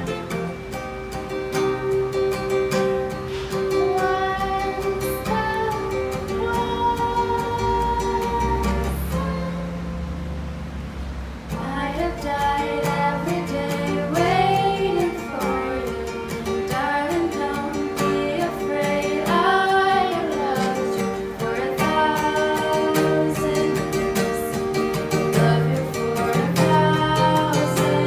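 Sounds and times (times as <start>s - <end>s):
plucked acoustic guitar: 0.0s - 28.0s
woman singing: 3.6s - 9.8s, 11.5s - 28.0s.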